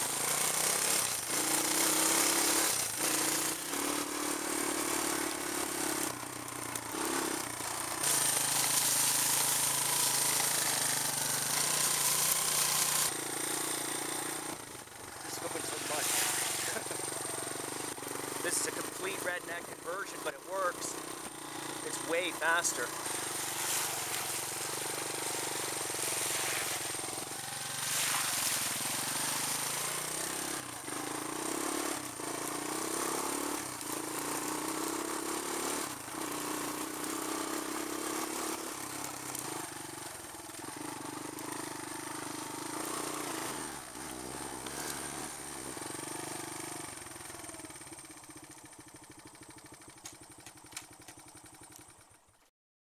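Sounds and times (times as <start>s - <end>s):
atv engine running: 0.0s - 52.5s.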